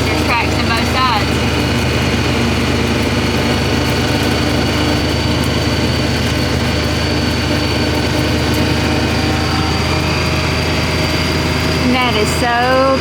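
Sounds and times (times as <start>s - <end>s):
car engine and road noise: 0.0s - 13.0s
thin high whine: 0.0s - 13.0s.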